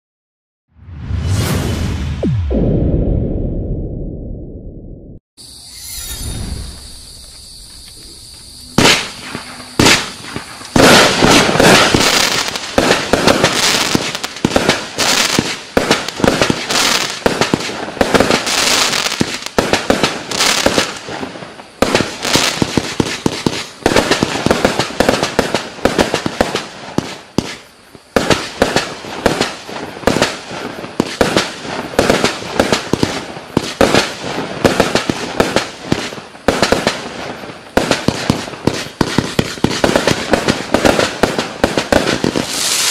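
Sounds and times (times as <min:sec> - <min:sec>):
fireworks launching and bursting: 0:00.8 - 0:42.9.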